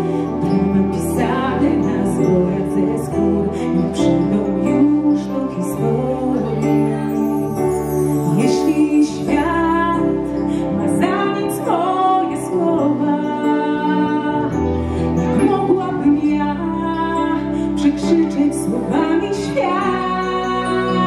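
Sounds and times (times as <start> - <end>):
piano and keyboards: 0.0 - 21.0
woman singing: 0.0 - 21.0.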